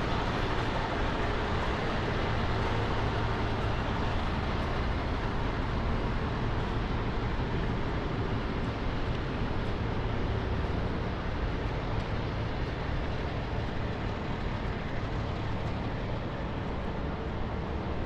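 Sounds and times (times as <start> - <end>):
low rumble of traffic: 0.0 - 18.0.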